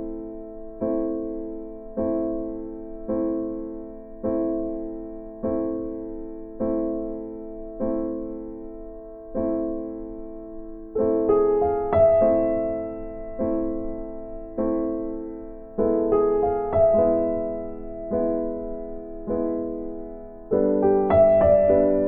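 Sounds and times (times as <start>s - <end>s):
slow gentle piano music: 0.0s - 22.0s.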